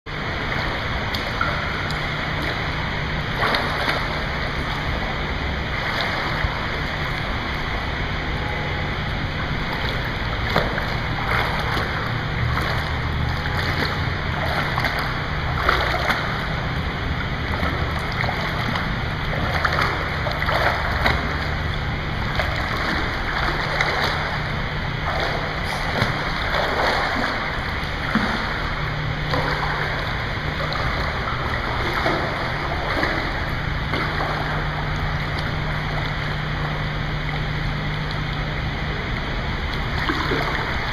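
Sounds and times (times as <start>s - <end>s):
pool water splashing: 0.1s - 40.9s
steady low hum: 0.1s - 40.9s.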